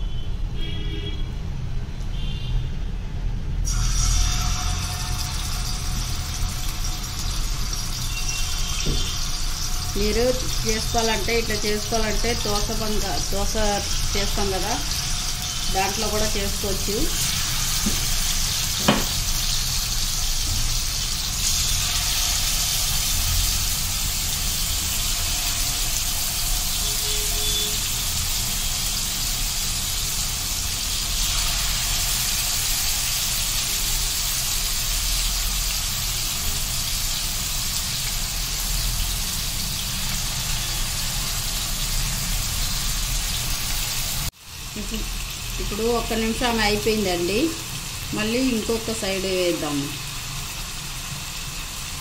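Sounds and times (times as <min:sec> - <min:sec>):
chicken sizzling in hot oil: 0:03.6 - 0:52.0.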